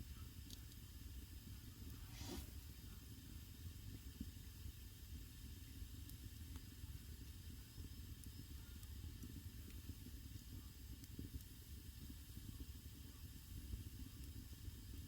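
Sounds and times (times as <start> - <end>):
faint hiss: 0.0 - 15.0
fire crackles: 0.0 - 15.0
fluttering rumble of flames: 0.0 - 15.0.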